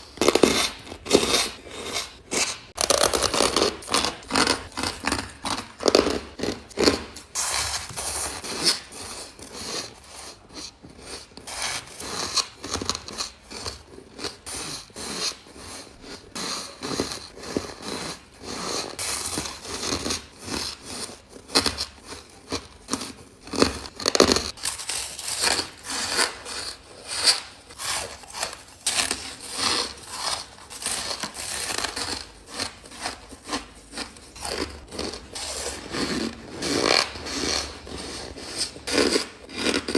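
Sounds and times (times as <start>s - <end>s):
crunching ice chewing: 0.0s - 15.0s, 15.6s - 26.6s, 27.4s - 39.9s.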